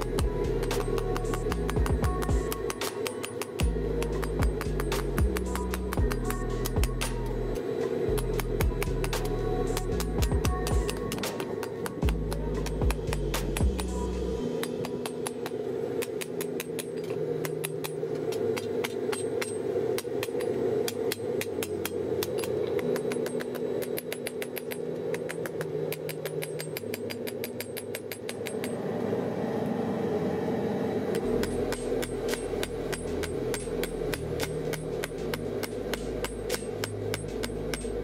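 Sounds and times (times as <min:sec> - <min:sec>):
hammer striking hot steel on anvil: 0:00.0 - 0:07.3, 0:08.1 - 0:28.8, 0:31.2 - 0:38.0.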